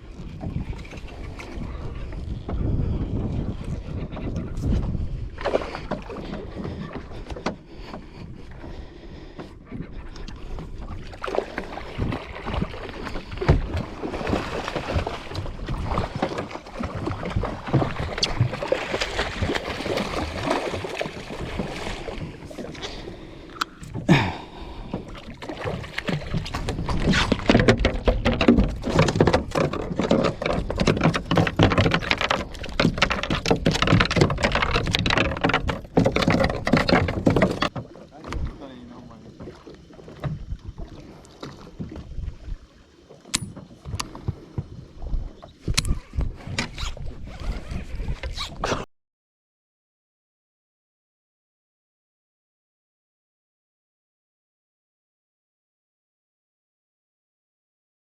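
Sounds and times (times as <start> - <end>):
water splashing against boat: 0.0 - 48.9.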